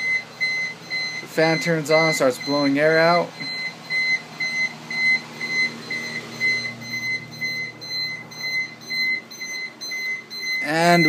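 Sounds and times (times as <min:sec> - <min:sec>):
exhaust fan humming: 0:00.0 - 0:11.0
high-pitched alarm beeping: 0:00.0 - 0:11.0.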